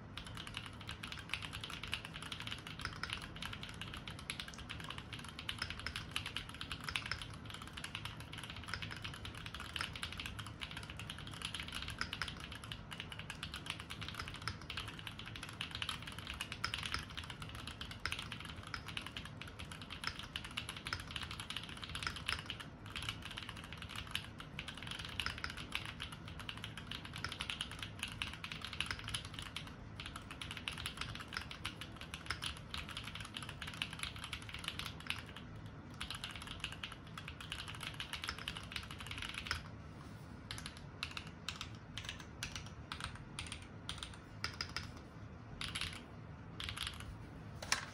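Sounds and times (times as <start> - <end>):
fast mechanical keyboard typing: 0.0 - 39.7, 40.5 - 47.9.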